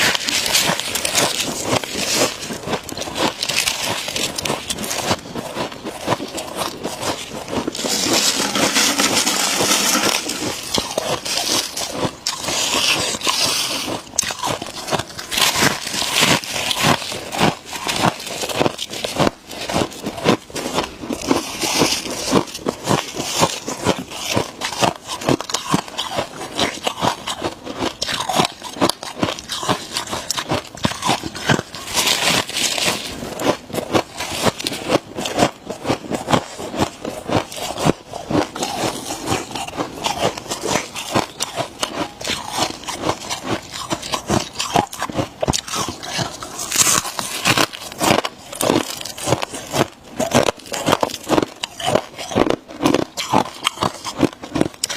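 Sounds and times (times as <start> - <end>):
crunching and chewing frost: 0.0 - 54.9.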